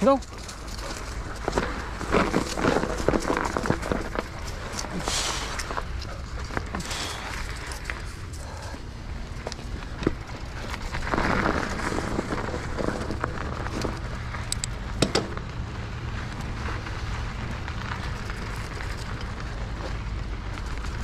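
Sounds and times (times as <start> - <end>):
bike tyres crunching over snow: 0.0 - 21.0
steady low rumble: 0.0 - 21.0.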